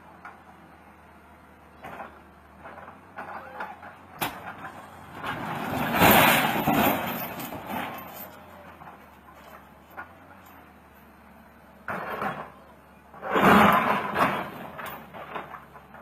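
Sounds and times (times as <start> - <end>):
truck passing: 0.0 - 16.0.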